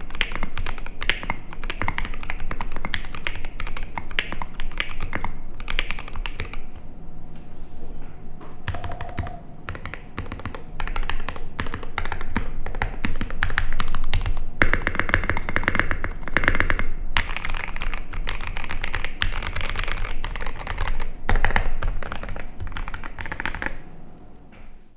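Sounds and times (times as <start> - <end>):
fast typing on mechanical keyboard: 0.0 - 6.7, 8.7 - 23.9.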